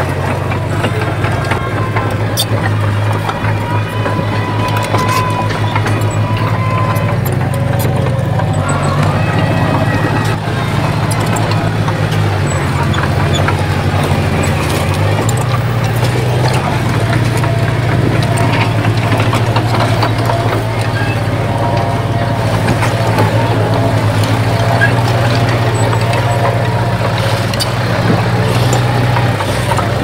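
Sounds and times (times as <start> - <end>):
clicks and knocks: 0.0 - 30.0
diesel machinery engine drone: 0.0 - 30.0.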